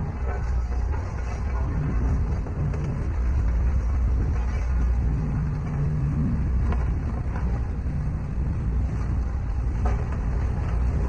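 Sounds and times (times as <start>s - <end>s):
heavy machinery diesel engine: 0.0s - 11.0s.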